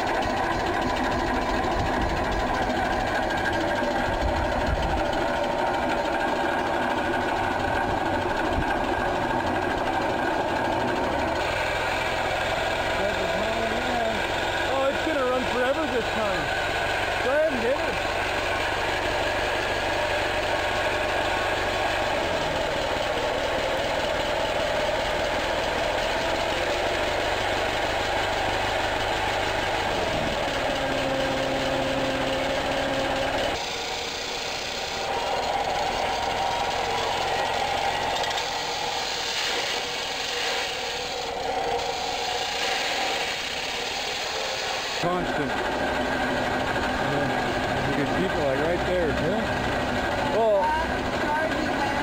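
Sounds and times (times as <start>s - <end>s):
steam engine exhausting steam: 0.0s - 52.0s.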